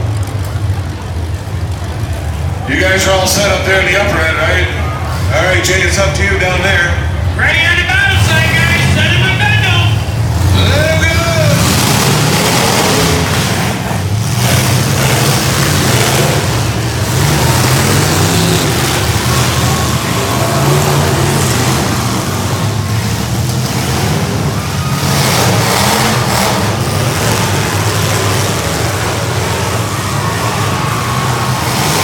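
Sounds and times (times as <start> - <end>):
car engines running and revving: 0.0 - 32.0.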